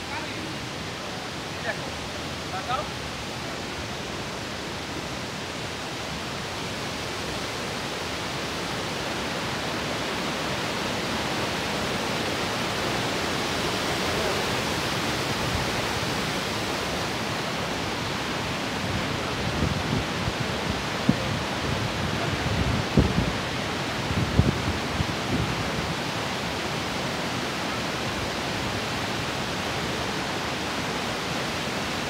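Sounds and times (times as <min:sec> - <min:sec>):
waterfall rushing hiss: 0:00.0 - 0:32.0.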